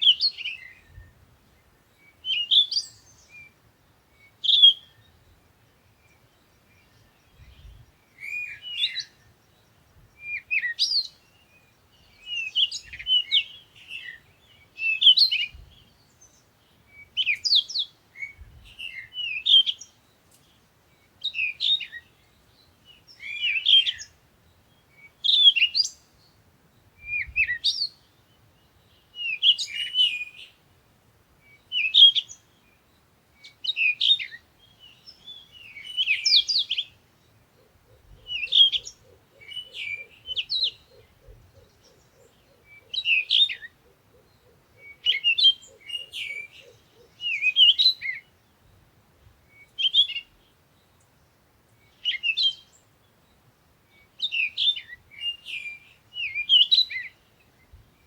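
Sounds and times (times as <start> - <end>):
bird chirping: 0.0 - 30.7, 31.4 - 58.0.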